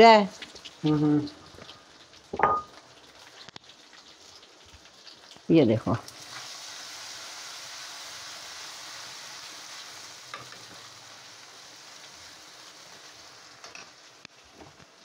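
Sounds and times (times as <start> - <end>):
paste sizzling in a pan: 0.0 - 15.0.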